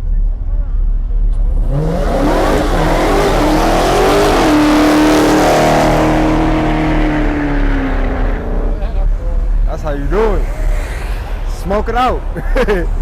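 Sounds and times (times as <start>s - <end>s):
car engine revving: 0.0s - 13.0s
spinning tyres rushing: 0.3s - 13.0s.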